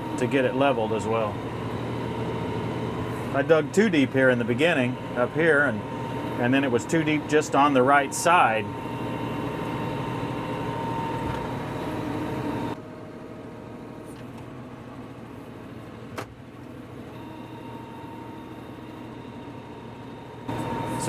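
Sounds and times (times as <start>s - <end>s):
tractor diesel engine running: 0.0s - 15.8s, 16.6s - 21.0s.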